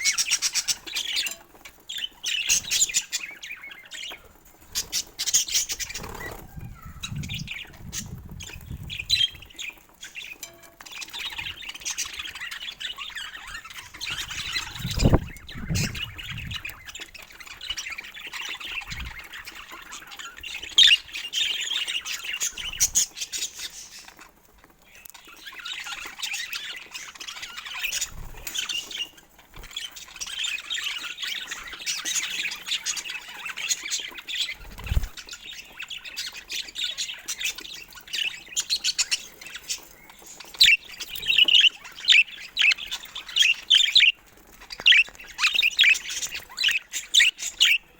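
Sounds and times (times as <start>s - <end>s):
budgerigars chattering and squawking: 0.0s - 47.9s.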